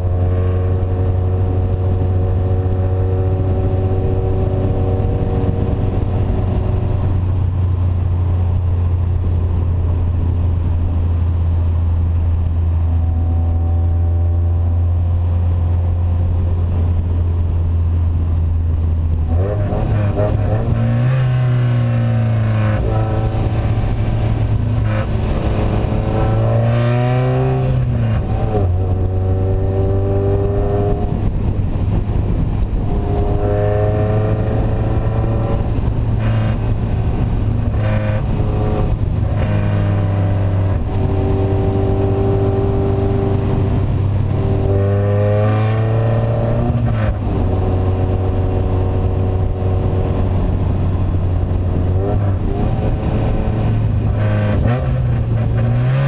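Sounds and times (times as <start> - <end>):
car engine open exhaust droning: 0.0 - 56.0.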